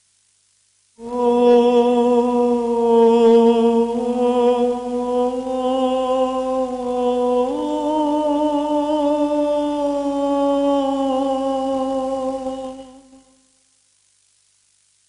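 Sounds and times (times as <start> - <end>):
person chanting long notes: 1.0 - 13.4.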